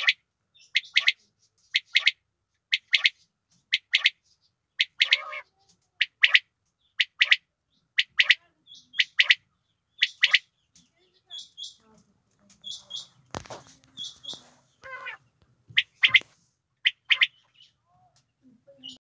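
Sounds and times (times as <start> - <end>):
quail calling: 0.0 - 10.6, 12.6 - 18.2.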